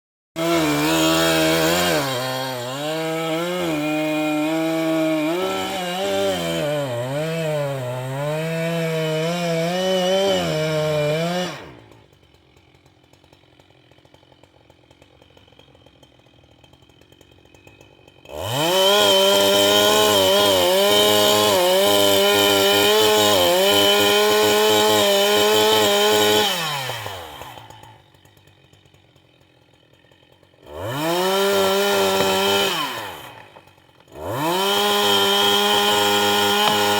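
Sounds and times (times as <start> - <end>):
chainsaw cutting into tree: 0.4 - 36.9.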